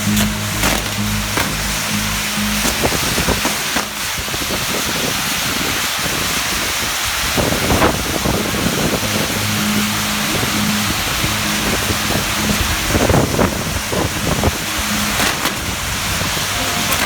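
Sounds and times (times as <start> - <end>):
fireworks crackling: 0.0 - 17.0
fireworks wheel hissing: 0.0 - 17.0.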